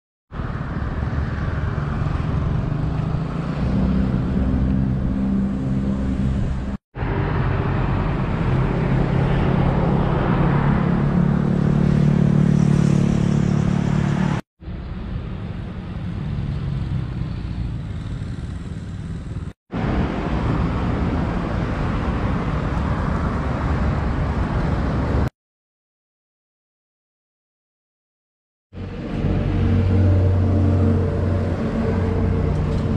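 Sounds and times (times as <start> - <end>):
traffic passing on road: 0.3 - 25.3, 28.8 - 32.9.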